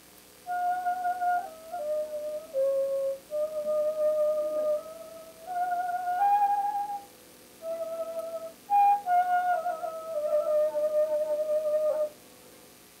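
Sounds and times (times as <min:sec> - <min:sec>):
slow pure-toned melody: 0:00.5 - 0:12.2.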